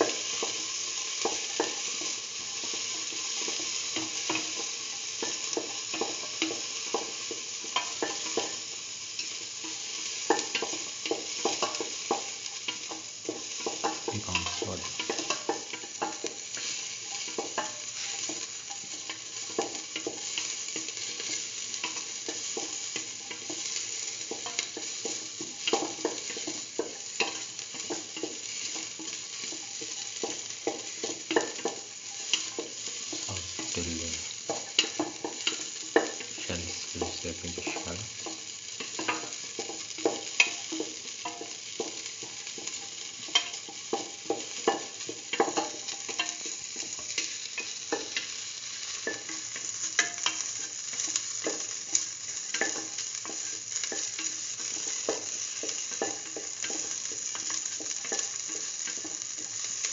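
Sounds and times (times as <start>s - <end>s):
shallots sizzling in hot oil: 0.0s - 59.9s.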